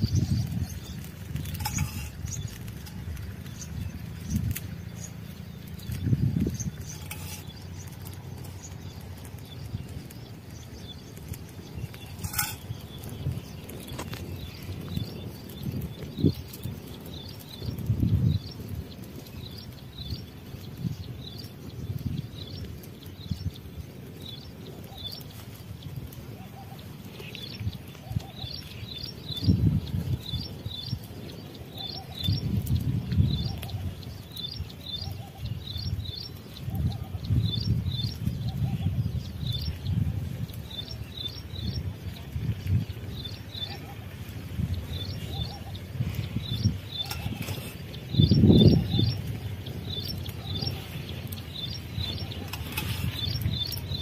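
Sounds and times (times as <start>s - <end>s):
small bird chirping: 0.0s - 25.7s, 26.4s - 44.0s, 44.6s - 54.0s.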